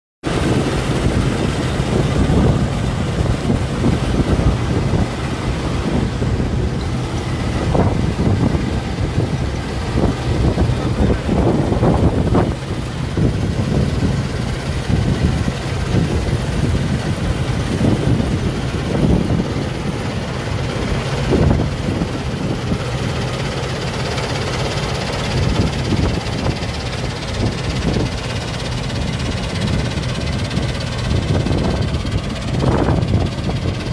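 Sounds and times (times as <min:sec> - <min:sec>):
harvester engine humming: 0:00.2 - 0:33.9.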